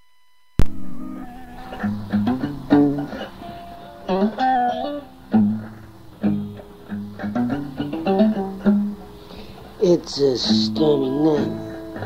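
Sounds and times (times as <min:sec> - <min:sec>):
guitar picked notes and chords: 0:00.6 - 0:12.0.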